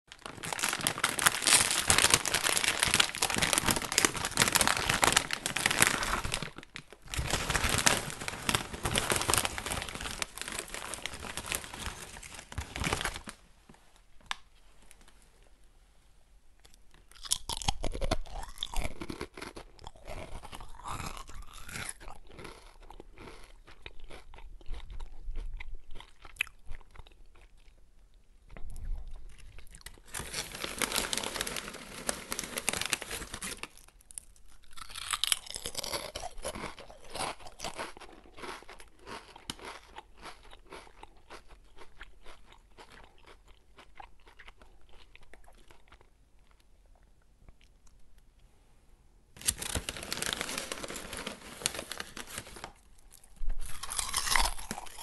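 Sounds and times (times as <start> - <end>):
person chewing potato chips: 0.1 - 13.2, 16.6 - 48.1, 49.4 - 55.0.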